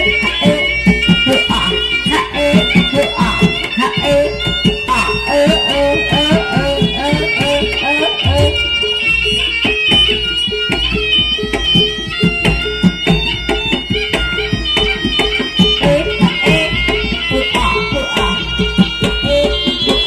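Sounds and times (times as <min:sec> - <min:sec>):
dance music with drums: 0:00.0 - 0:20.0.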